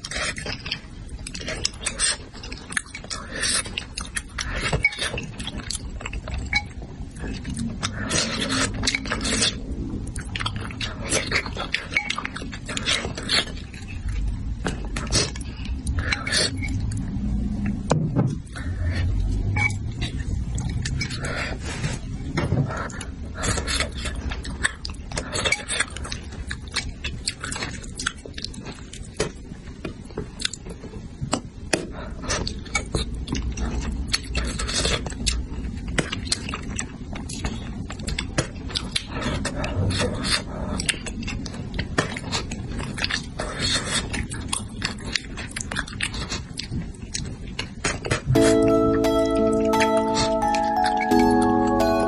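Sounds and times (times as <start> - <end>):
close chewing and biting: 0.0 - 17.8, 18.4 - 48.3.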